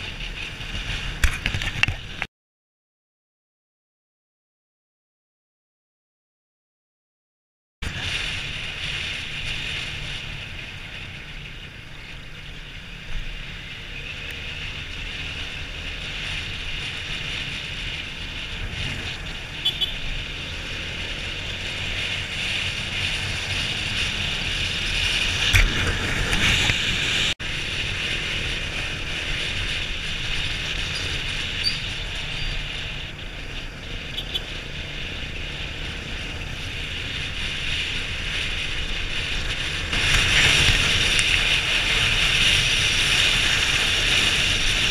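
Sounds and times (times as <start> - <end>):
motorcycle engine running: 7.9 - 44.9.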